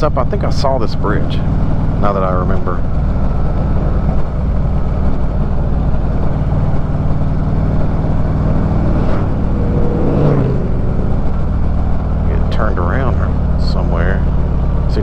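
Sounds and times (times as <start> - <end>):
motorcycle engine cruising: 0.0 - 15.0
motorcycle passing: 0.0 - 15.0.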